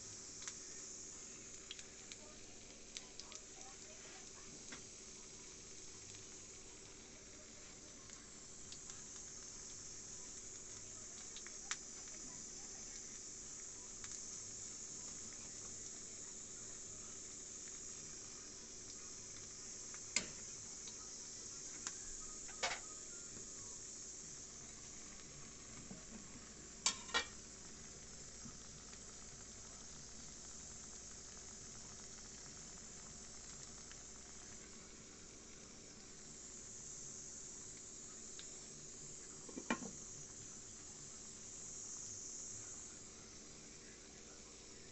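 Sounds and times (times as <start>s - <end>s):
broth boiling and bubbling: 0.0s - 44.9s.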